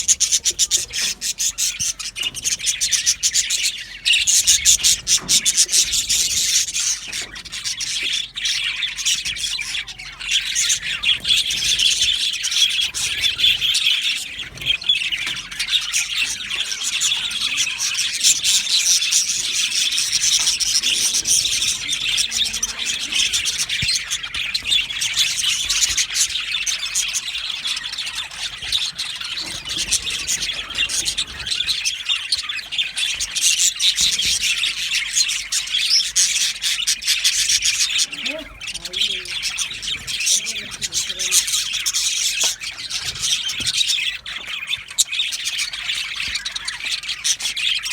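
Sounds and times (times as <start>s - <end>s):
budgerigars chattering and chirping: 0.0s - 47.9s.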